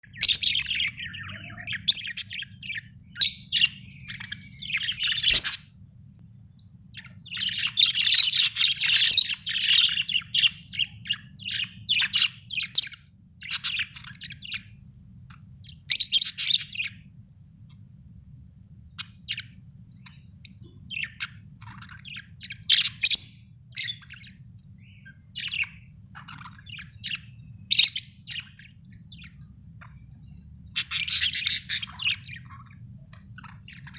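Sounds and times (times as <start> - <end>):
birds chirping and chattering: 0.0 - 33.9
faint low hum: 0.0 - 33.9.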